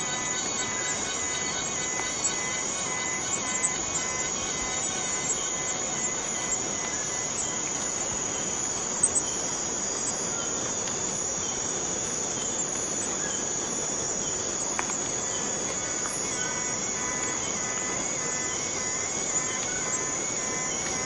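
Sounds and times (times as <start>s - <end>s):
cicadas chorus: 0.0s - 21.0s.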